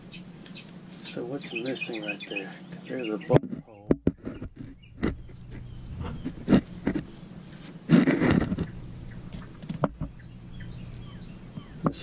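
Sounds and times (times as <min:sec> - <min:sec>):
scraping rustle: 0:00.4 - 0:10.1.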